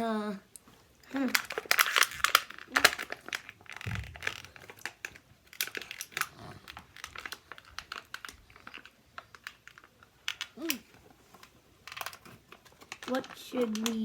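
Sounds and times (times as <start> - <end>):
packaging crinkling: 1.1 - 14.0.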